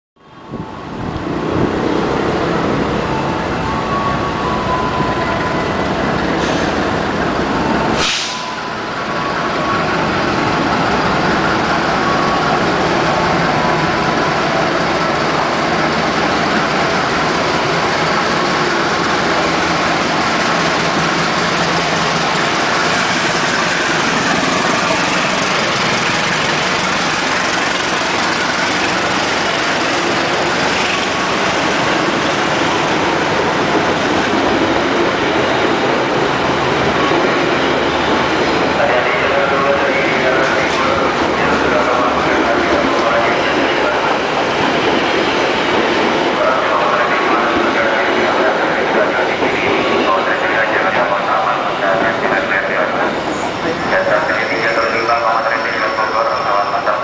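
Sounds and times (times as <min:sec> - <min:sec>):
diesel locomotive rumble: 0:00.4 - 0:57.0
train wheels on rails: 0:00.9 - 0:57.0.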